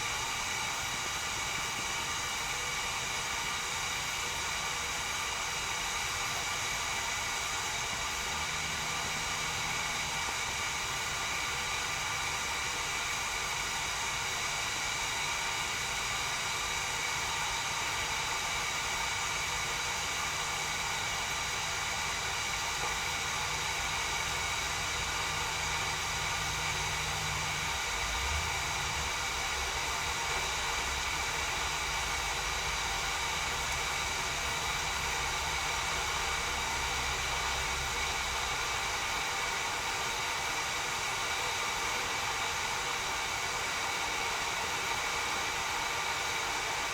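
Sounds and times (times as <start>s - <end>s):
kettle hissing: 0.0s - 46.9s.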